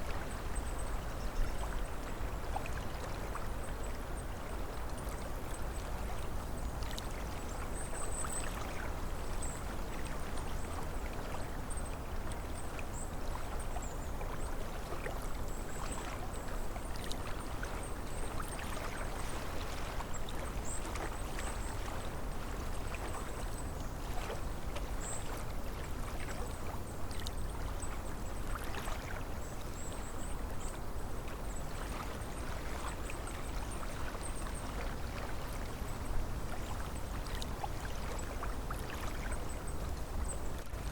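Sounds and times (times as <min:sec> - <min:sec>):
small waves lapping on shore: 0:00.0 - 0:40.9
wind over water: 0:00.0 - 0:40.9.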